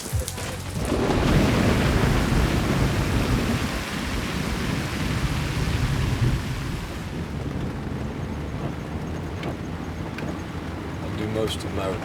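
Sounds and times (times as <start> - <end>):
steady rain: 0.0 - 12.0
low rumble of thunder: 0.5 - 11.7.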